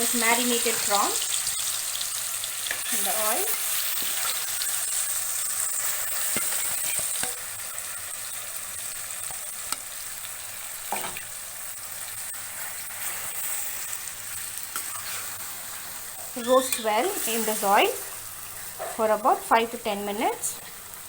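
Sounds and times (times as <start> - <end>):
prawns sizzling in hot oil: 0.0 - 21.0.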